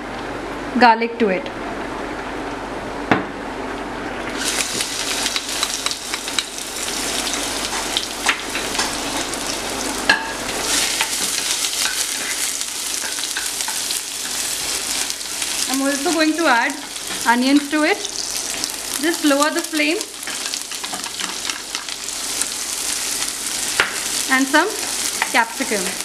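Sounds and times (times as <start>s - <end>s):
garlic sizzling in hot oil: 4.3s - 26.0s.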